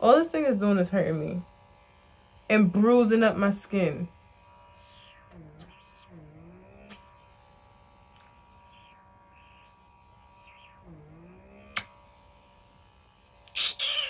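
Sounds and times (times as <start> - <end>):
pore vacuum humming: 0.0 - 14.0.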